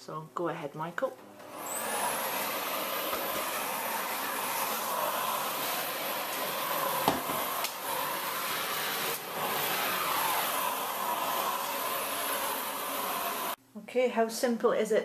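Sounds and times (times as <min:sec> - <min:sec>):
vacuum cleaner running: 0:01.2 - 0:13.6.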